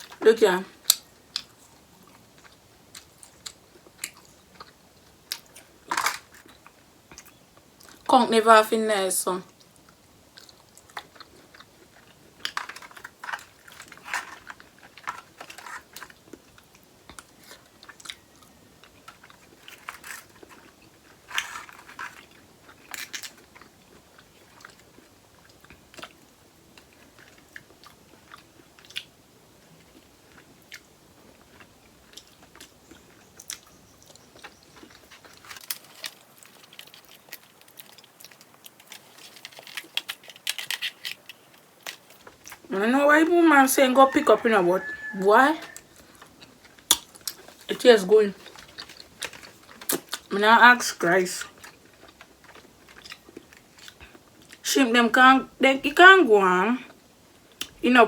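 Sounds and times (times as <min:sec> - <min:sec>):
person chewing food: 0:00.8 - 0:08.1, 0:09.5 - 0:42.7, 0:45.0 - 0:47.7, 0:48.4 - 0:50.3, 0:51.5 - 0:54.6.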